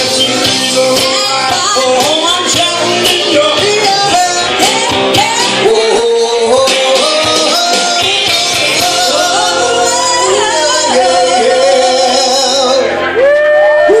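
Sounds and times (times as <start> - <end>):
backing track over pa: 0.0 - 14.0
woman and man singing duet: 0.7 - 12.9.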